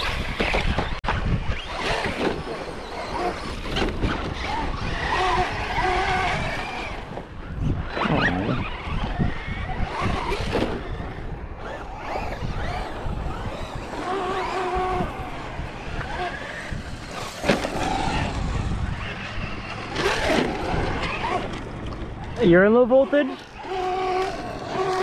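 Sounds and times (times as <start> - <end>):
electric motors whining: 0.0 - 25.0
tire and ground noise: 0.0 - 25.0.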